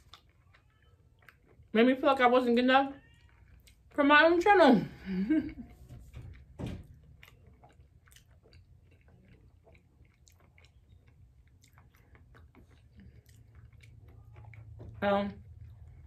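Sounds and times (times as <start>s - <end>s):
person chewing food: 0.0s - 1.7s, 3.0s - 4.0s, 5.6s - 16.0s.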